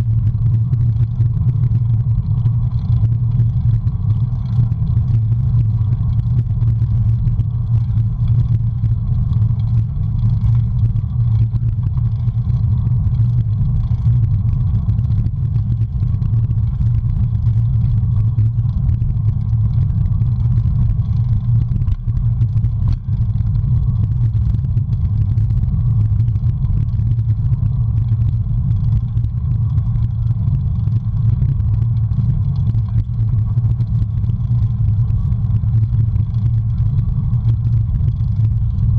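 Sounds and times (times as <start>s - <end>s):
bicycle tyre noise on asphalt: 0.0s - 38.9s.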